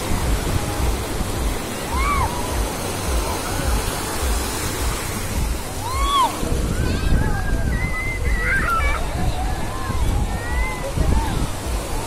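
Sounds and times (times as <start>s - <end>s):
surf breaking and washing: 0.0s - 12.0s.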